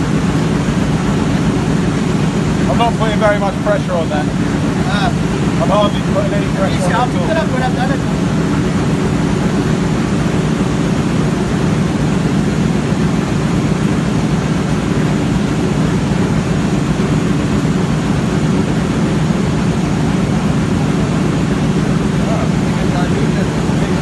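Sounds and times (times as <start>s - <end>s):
loud mechanical drone: 0.0s - 24.0s.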